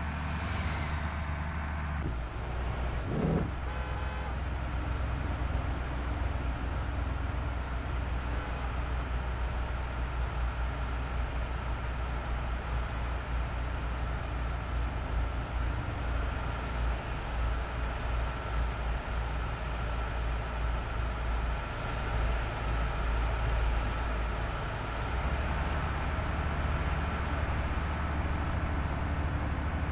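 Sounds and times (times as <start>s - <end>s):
bus engine rumble: 0.0s - 29.9s.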